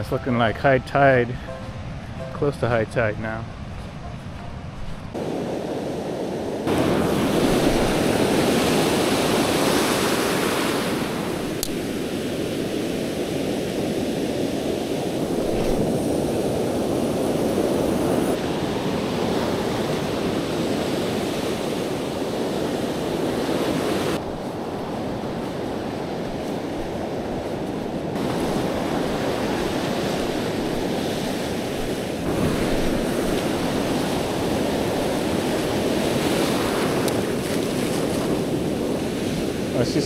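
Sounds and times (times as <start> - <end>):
ocean surf breaking: 0.0 - 40.0.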